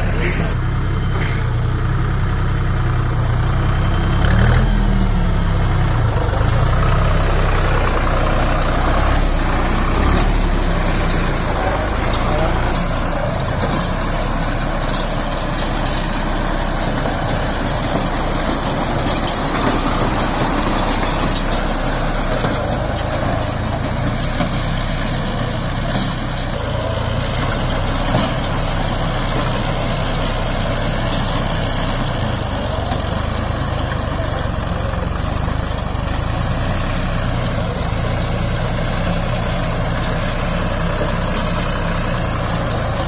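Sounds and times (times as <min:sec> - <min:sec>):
round baler running: 0:00.0 - 0:43.0
tractor diesel engine under load: 0:00.0 - 0:43.0.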